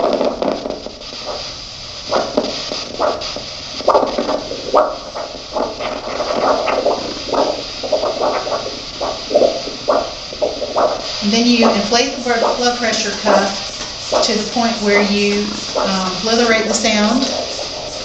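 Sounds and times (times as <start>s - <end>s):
doppler whooshing pulse beat: 0.0s - 18.0s.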